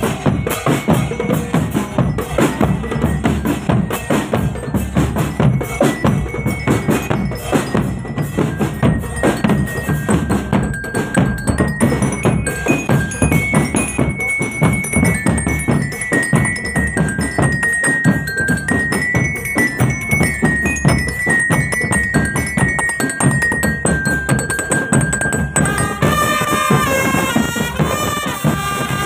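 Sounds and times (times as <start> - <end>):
high melody: 0.0 - 29.0
snare and bass drums: 0.0 - 29.0.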